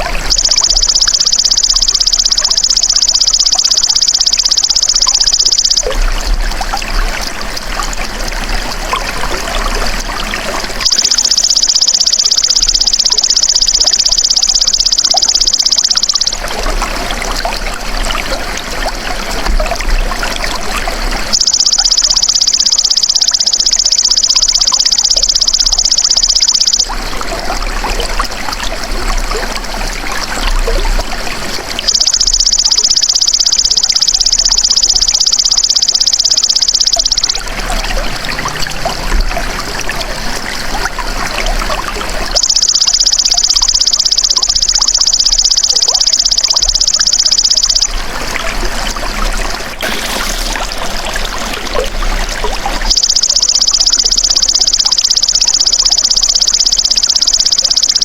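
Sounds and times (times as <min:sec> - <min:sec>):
water trickling and splashing: 0:00.0 - 0:21.6, 0:26.8 - 0:58.0.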